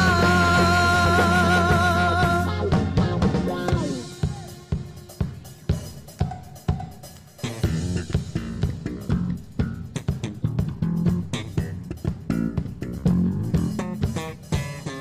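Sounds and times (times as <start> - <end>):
band playing pop song: 0.0 - 15.0.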